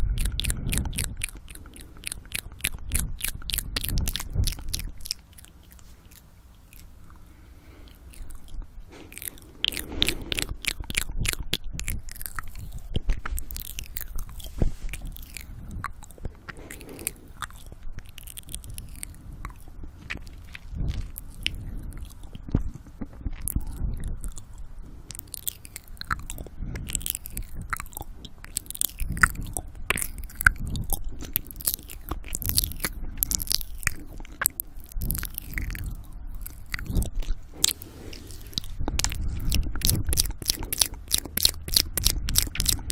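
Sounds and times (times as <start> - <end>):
heavy breathing: 0.0 - 28.4, 35.0 - 41.2
wet mouth clicks and smacks: 0.0 - 42.9.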